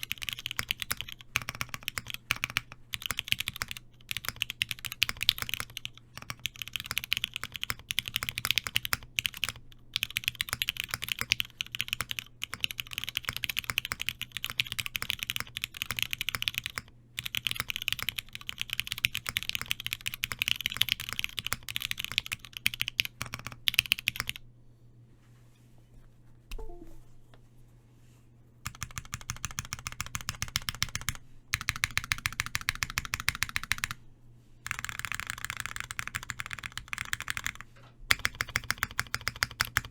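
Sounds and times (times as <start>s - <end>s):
mechanical keyboard typing: 0.0s - 24.4s, 28.6s - 34.0s, 34.7s - 39.9s.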